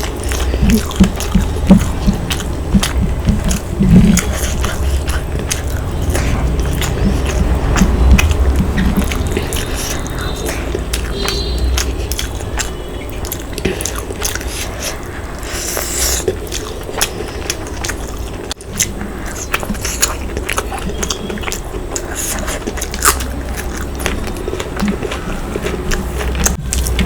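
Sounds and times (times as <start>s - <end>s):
mouth clicks: 0.0s - 27.0s
person chewing food: 0.0s - 27.0s.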